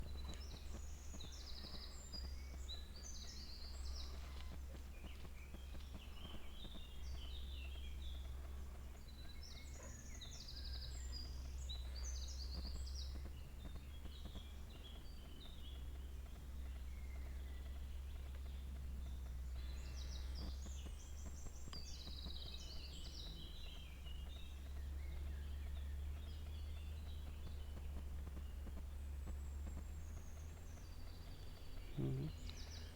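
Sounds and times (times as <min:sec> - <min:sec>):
songbirds chirping and trilling: 0:00.0 - 0:32.9.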